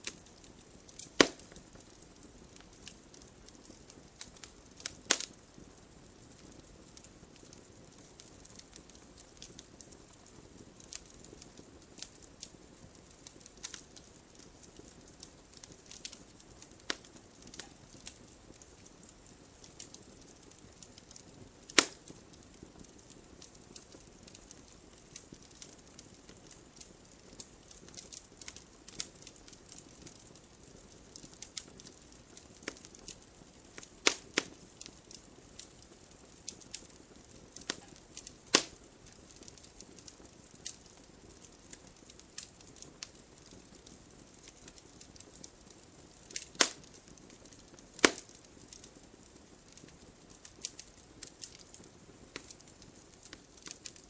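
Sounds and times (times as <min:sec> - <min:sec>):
faint low hiss: 0:00.0 - 0:54.0
wood fire crackling and popping: 0:00.0 - 0:54.0.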